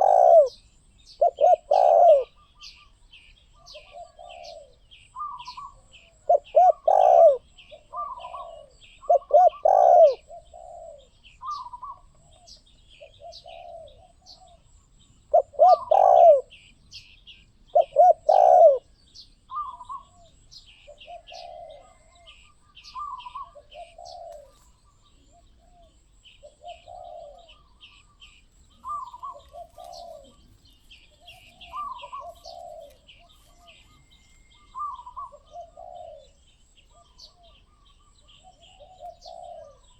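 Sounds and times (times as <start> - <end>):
doves cooing: 0.0 - 16.6, 17.7 - 18.9, 19.5 - 39.9
small birds chirping: 0.0 - 39.9.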